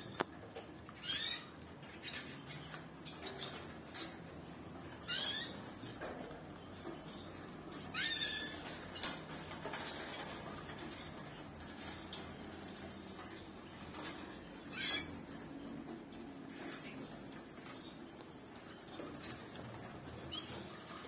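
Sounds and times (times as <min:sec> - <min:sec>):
birds chirping softly: 0:00.0 - 0:21.0
birds tapping in cages: 0:00.0 - 0:21.0
canaries calling: 0:00.0 - 0:21.0.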